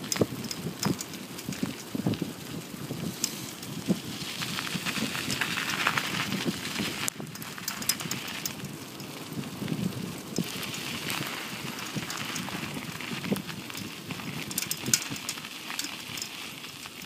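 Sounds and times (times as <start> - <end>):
bicycle tyres crunching on gravel: 0.0 - 17.0
small stones ticking: 0.0 - 17.0.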